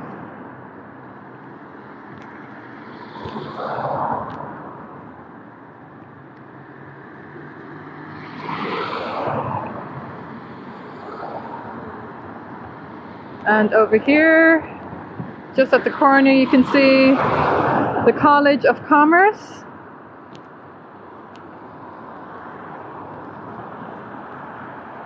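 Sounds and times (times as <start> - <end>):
cars passing: 0.0 - 25.0
traffic road noise hum: 0.0 - 25.0.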